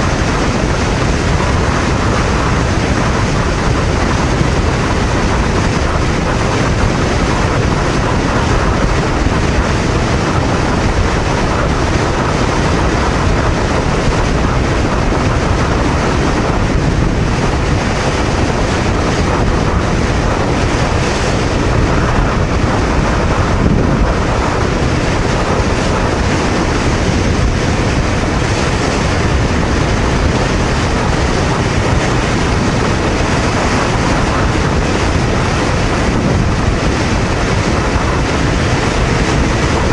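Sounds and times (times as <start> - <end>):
wind roar on microphone: 0.0 - 39.9.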